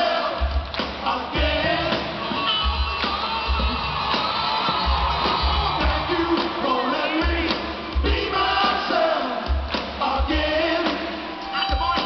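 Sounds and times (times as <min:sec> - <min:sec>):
live rock band playing: 0:00.1 - 0:12.0.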